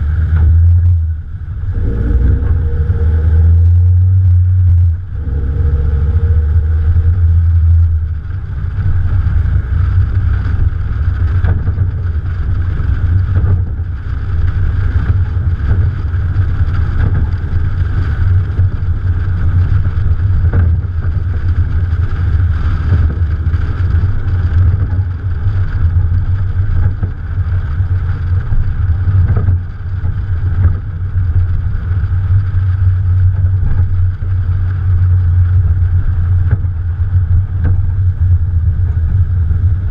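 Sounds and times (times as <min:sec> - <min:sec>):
car engine droning: 0:00.0 - 0:39.9
road noise: 0:00.0 - 0:39.9
wind noise: 0:00.0 - 0:39.9.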